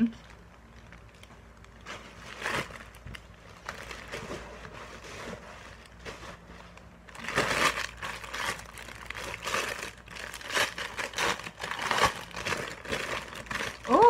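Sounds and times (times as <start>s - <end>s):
packaging crinkling and rustling: 0.1s - 14.0s.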